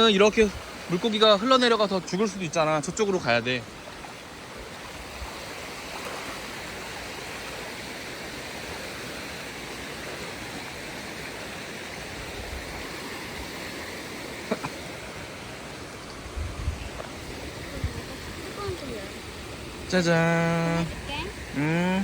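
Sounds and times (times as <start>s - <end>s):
stream flowing over rocks: 0.0s - 22.0s.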